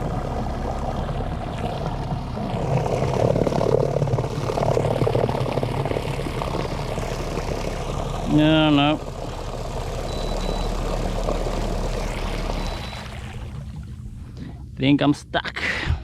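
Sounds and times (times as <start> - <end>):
electric boat motor running: 0.0 - 14.1
propeller churning water: 0.0 - 15.4.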